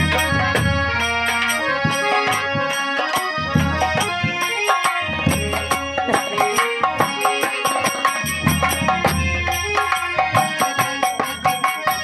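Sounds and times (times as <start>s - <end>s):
dholak drum strokes: 0.0s - 12.0s
reedy melody: 0.0s - 12.0s.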